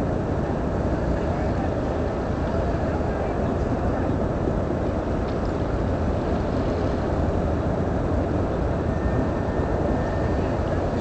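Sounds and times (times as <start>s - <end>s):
boat engine rumble: 0.0s - 11.0s
water noise: 0.0s - 11.0s
wind: 0.0s - 11.0s.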